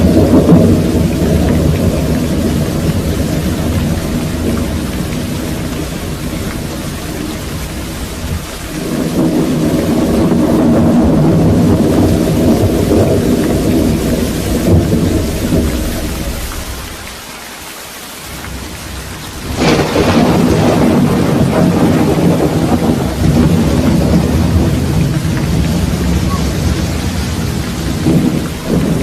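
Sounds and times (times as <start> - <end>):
thunder crack: 0.0 - 17.1, 18.3 - 29.0
rolling thunder: 0.0 - 17.2, 18.2 - 29.0
steady rain: 0.0 - 29.0.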